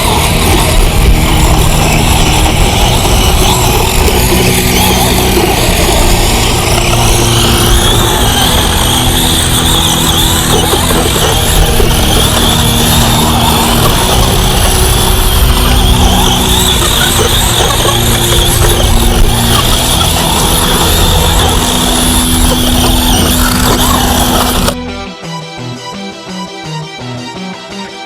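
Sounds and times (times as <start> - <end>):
drivetrain and tyre noise: 0.0 - 24.8
electric motor whine: 0.0 - 24.8.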